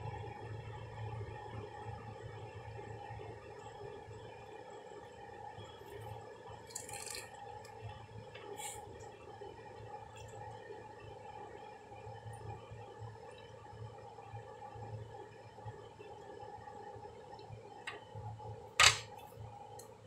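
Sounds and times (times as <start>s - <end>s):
air conditioner humming: 0.0s - 20.0s.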